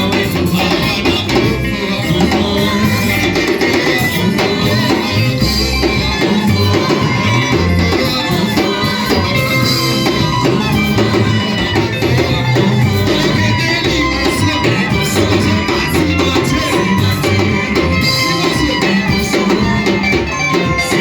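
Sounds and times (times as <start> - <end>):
bass guitar line: 0.0 - 21.0
drum kit beat: 0.0 - 21.0
worship band playing: 0.0 - 21.0.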